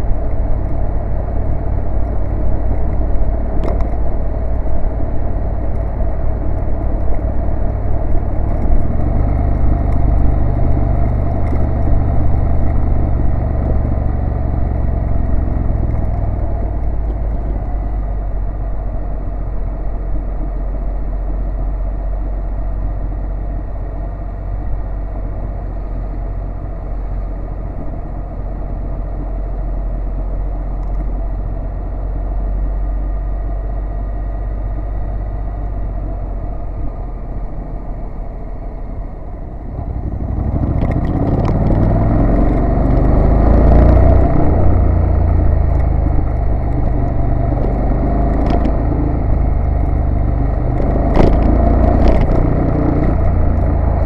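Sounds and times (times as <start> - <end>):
motorcycle engine running: 0.0 - 54.0
road and wind rumble: 0.0 - 54.0.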